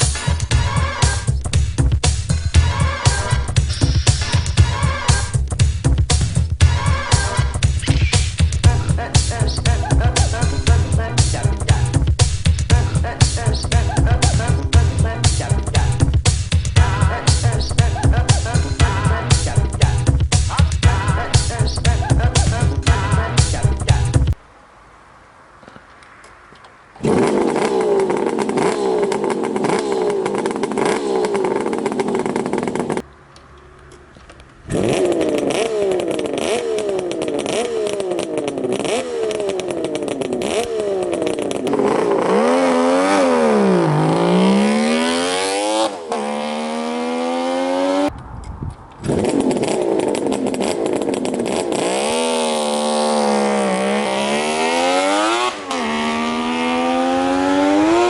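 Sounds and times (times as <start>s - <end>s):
motorcycle engine revving: 0.0s - 24.4s, 27.0s - 58.0s.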